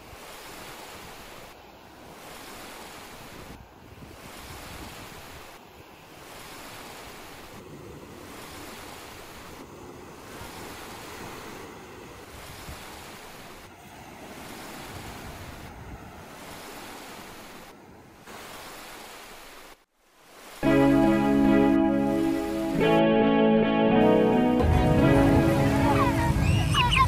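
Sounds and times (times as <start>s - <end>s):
waves breaking on shore: 0.0s - 27.0s.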